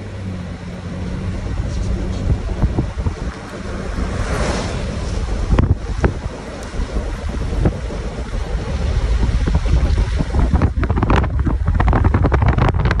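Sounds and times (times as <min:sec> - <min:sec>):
road noise: 0:00.0 - 0:13.0
wind buffeting a microphone: 0:00.8 - 0:13.0.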